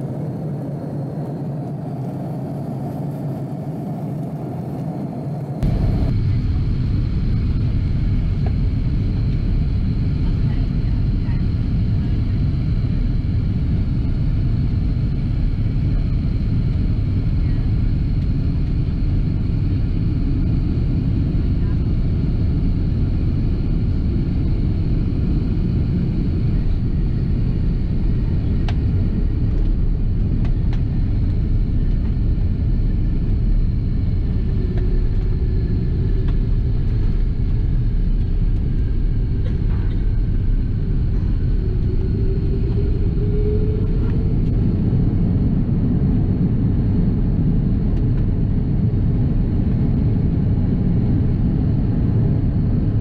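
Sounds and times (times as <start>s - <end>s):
airplane taxiing rumble: 0.0s - 53.0s
faint engine whine: 0.0s - 53.0s.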